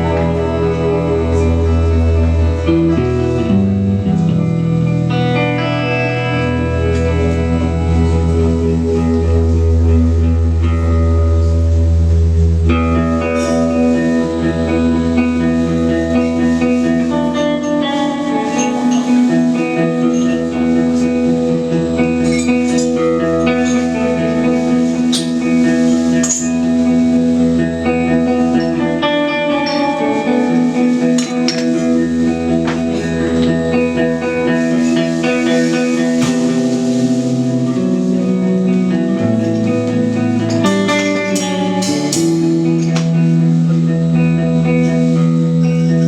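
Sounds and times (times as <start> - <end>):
ringing electric guitar notes: 0.0 - 46.0.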